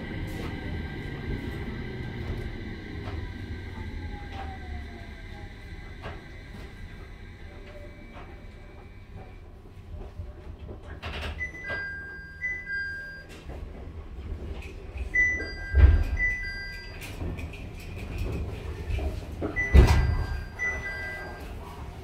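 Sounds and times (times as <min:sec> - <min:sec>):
train wheels rumbling on rail: 0:00.0 - 0:12.0, 0:12.8 - 0:22.0.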